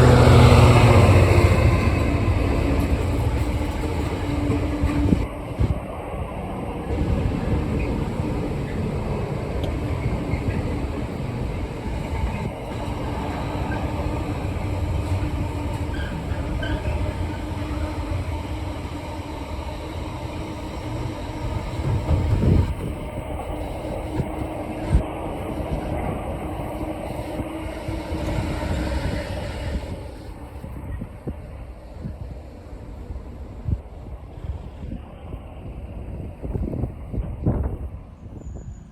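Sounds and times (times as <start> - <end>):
diesel train engine hum: 0.0 - 38.5
train wheels rumbling on rail: 0.0 - 38.9.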